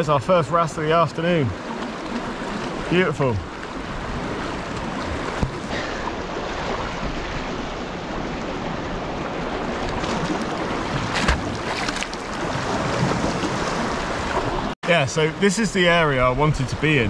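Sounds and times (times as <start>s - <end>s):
waves lapping over rocks: 0.5s - 14.7s.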